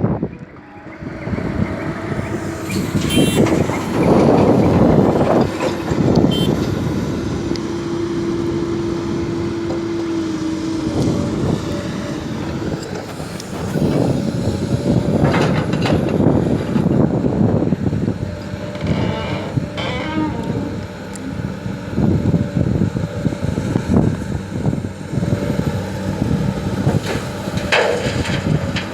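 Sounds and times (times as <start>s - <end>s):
excavator diesel engine under load: 0.0s - 28.9s
steady hydraulic whine: 0.1s - 28.9s.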